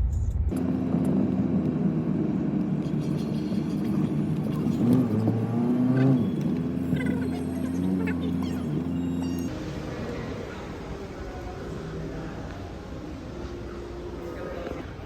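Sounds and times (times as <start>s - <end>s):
car engine running: 0.5s - 14.8s.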